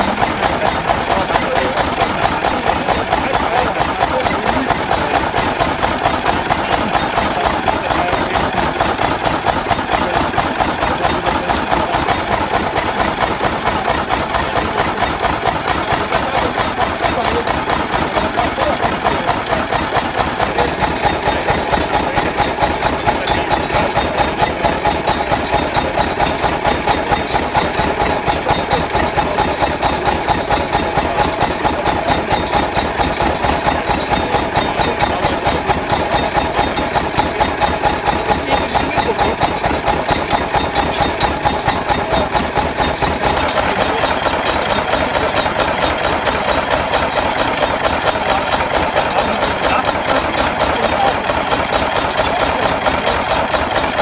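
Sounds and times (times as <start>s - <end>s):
single-cylinder diesel engine running: 0.0s - 54.0s.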